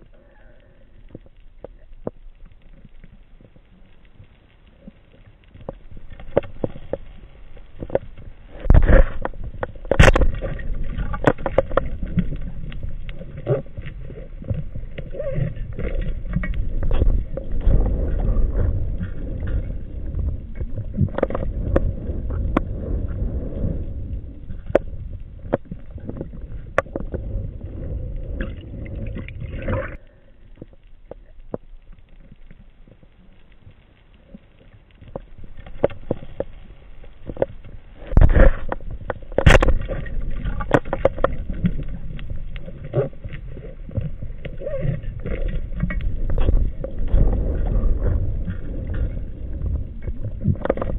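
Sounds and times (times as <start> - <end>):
underwater rushing water: 4.8 - 33.3, 34.2 - 50.9.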